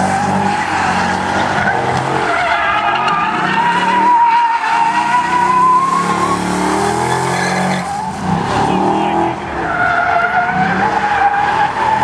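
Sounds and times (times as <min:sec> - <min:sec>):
car engine revving: 0:00.0 - 0:12.0
tire squeal: 0:00.0 - 0:12.0.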